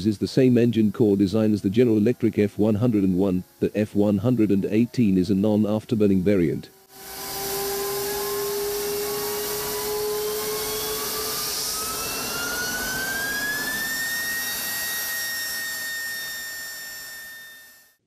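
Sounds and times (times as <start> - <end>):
jet engine roaring with whine: 0.0 - 18.0.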